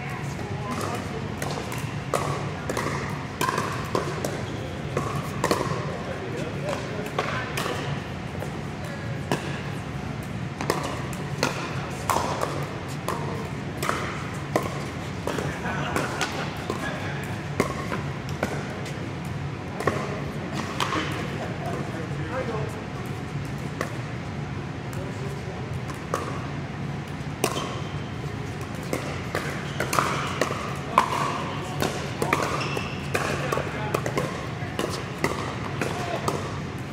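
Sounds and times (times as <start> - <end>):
paddles hitting plastic ball: 0.6 - 22.4, 27.4 - 27.9, 28.5 - 36.9.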